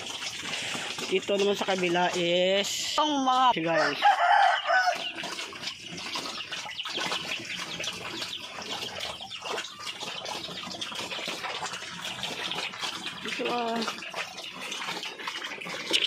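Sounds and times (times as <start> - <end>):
pigs eating smacking and slurping: 0.0 - 16.0.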